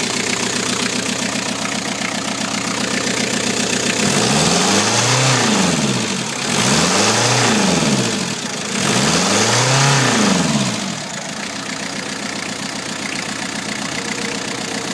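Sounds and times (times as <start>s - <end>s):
diesel engine revving and idling: 0.0s - 14.9s.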